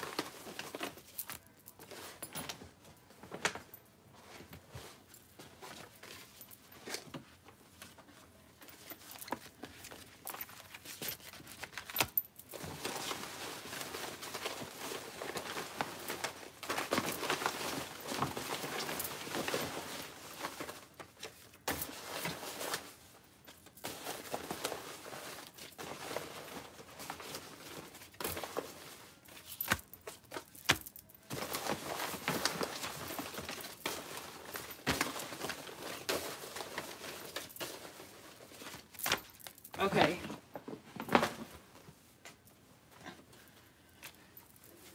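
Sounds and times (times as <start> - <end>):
paper rustling and crinkling: 0.0 - 42.0.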